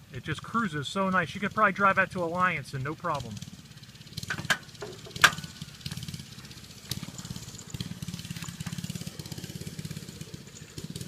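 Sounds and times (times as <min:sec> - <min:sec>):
dirt bike engine puttering: 0:00.2 - 0:11.0.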